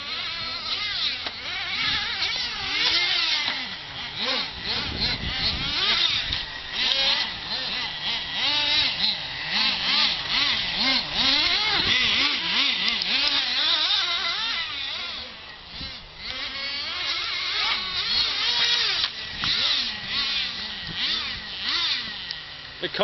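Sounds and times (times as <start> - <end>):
rc truck engines revving: 0.0 - 23.0.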